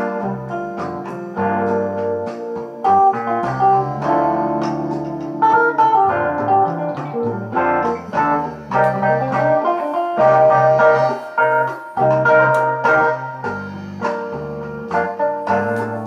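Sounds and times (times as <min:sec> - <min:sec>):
instrumental music with held chords: 0:00.0 - 0:16.0.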